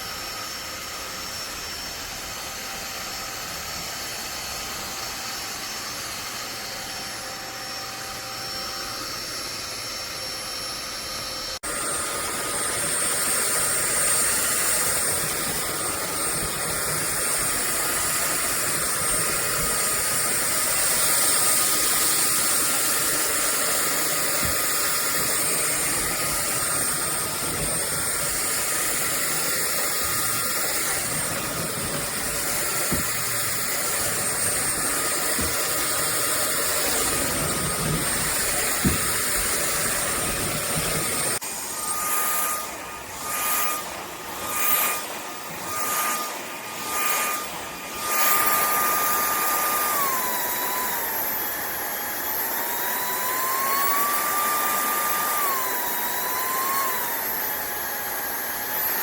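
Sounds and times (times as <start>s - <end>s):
stick vacuum cleaner whining: 0.0s - 59.0s.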